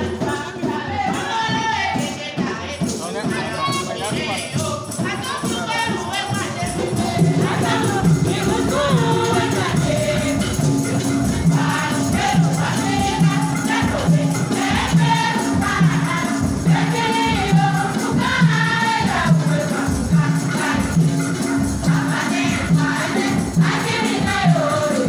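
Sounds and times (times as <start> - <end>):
women singing gospel: 0.0 - 25.0.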